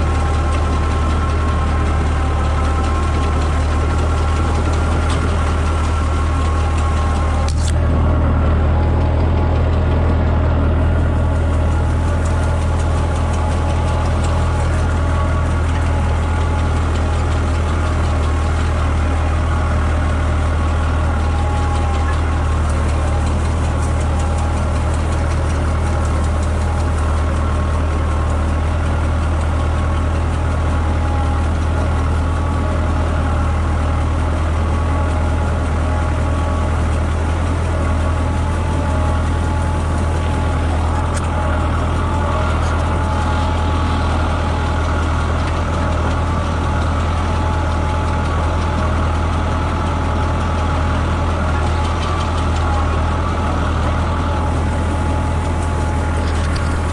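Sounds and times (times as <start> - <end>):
tractor engine humming: 0.0 - 56.9.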